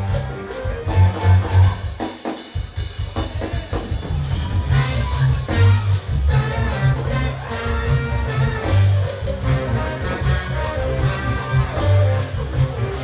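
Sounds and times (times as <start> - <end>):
horn section: 0.0 - 2.1, 4.6 - 13.0
live band playing instrumental: 0.0 - 13.0.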